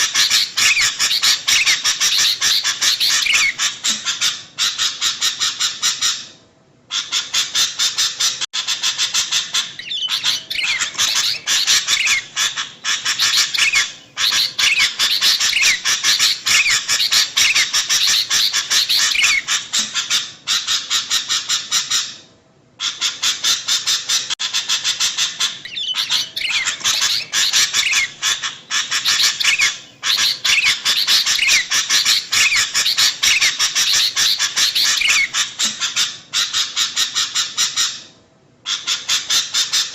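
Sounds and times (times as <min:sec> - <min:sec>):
birds chattering: 0:00.0 - 0:06.2, 0:06.9 - 0:22.1, 0:22.8 - 0:38.1.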